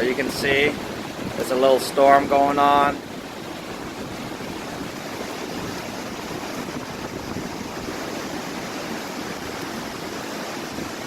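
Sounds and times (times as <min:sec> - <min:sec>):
rainstorm rushing: 0:00.0 - 0:11.0.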